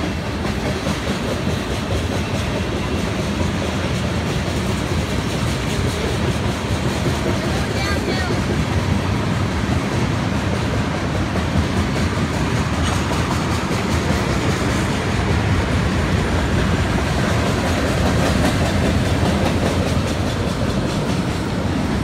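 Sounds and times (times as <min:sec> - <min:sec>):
train wheels rumbling on rails: 0:00.0 - 0:22.0
wheels clicking over rail joints: 0:00.0 - 0:22.0.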